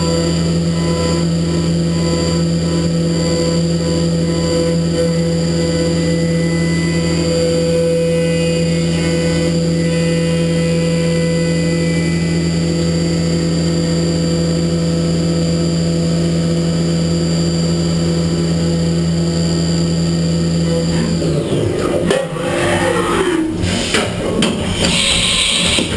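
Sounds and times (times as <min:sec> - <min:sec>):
milling machine whine: 0:00.0 - 0:25.9.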